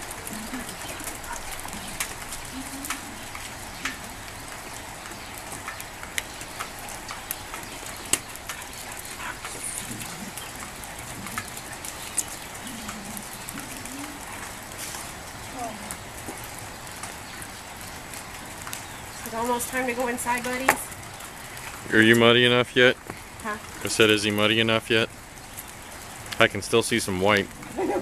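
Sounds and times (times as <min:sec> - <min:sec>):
light rain hissing: 0:00.0 - 0:28.0
raindrops ticking on something: 0:00.0 - 0:28.0.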